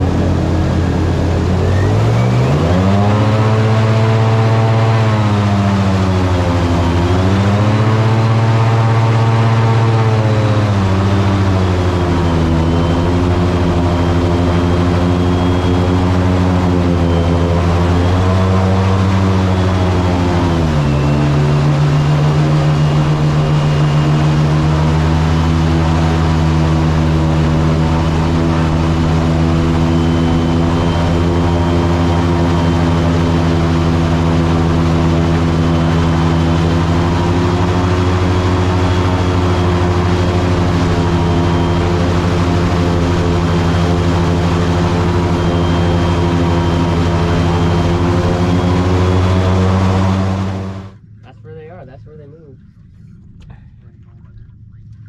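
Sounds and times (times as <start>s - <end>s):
boat motor running: 0.0s - 55.0s.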